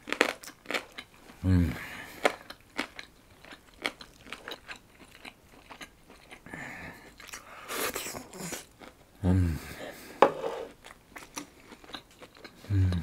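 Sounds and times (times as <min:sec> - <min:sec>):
chewing crunchy food: 0:00.0 - 0:09.2, 0:10.6 - 0:13.0.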